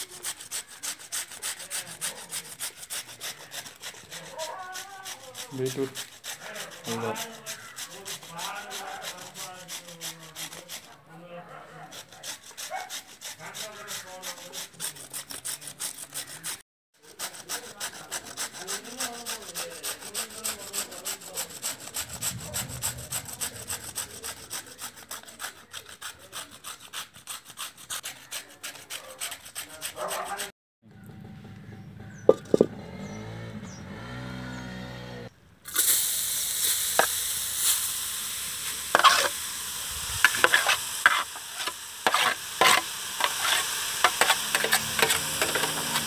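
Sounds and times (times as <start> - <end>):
grating on metal box grater: 0.0 - 11.1, 11.7 - 30.5, 38.6 - 46.0.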